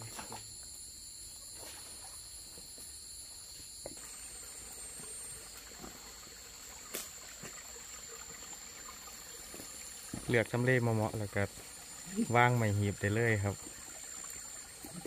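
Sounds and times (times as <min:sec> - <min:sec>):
insects chorus high-pitched: 0:00.0 - 0:15.0.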